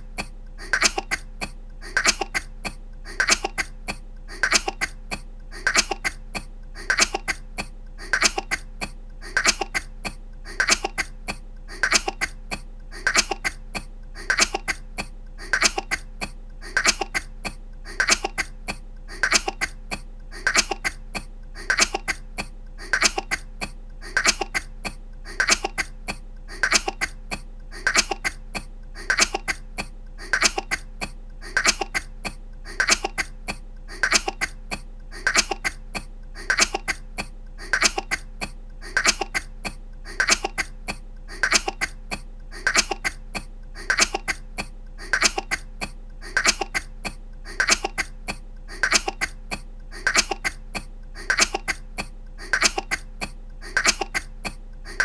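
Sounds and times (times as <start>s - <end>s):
faint steady hum: 0.0s - 55.0s
woman coughing: 0.1s - 55.0s.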